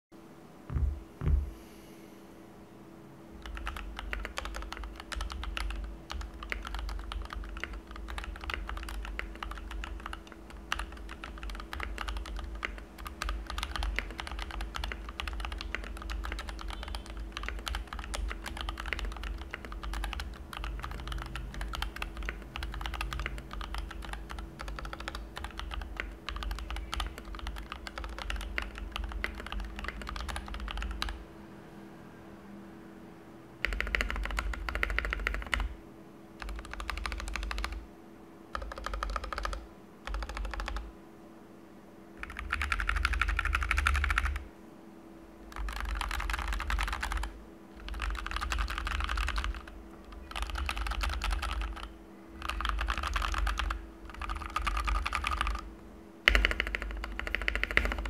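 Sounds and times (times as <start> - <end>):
fast mechanical keyboard typing: 3.4 - 31.2, 33.6 - 35.8, 36.4 - 37.8, 38.5 - 40.9, 42.2 - 44.4, 45.5 - 55.7, 56.3 - 58.0.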